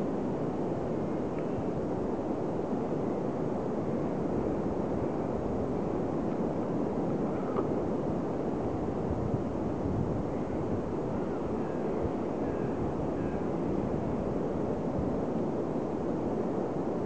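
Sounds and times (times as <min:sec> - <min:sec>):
beach wind: 0:00.0 - 0:17.0.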